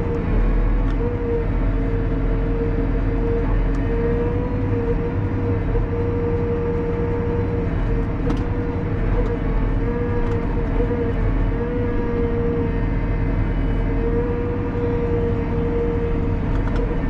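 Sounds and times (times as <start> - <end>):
tractor engine drone: 0.0 - 17.0.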